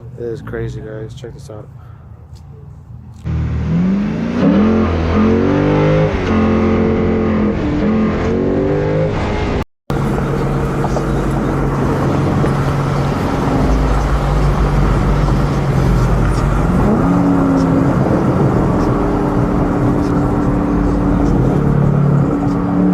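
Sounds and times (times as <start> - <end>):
loud car exhaust revving: 3.3 - 22.9.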